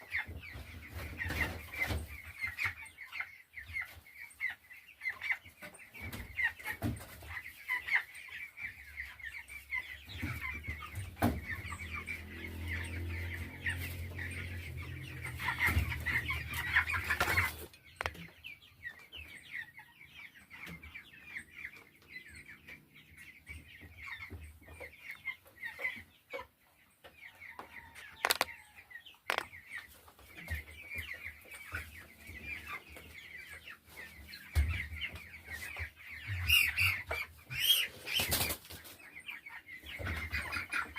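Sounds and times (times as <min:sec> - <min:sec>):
chicks peeping and chirping: 0:00.0 - 0:40.9.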